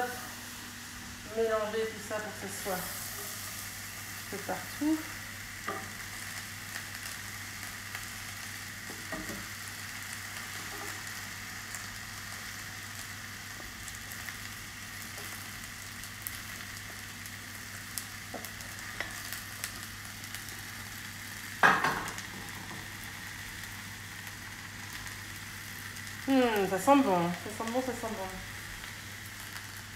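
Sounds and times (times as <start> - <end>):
vegetables sizzling in a skillet: 0.0 - 29.9.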